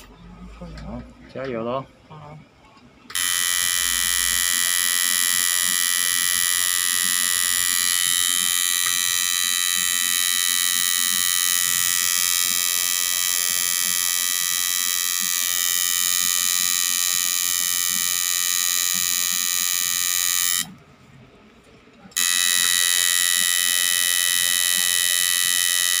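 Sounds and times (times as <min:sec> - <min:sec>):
tattoo machine buzzing: 0:03.1 - 0:20.8, 0:22.2 - 0:26.0.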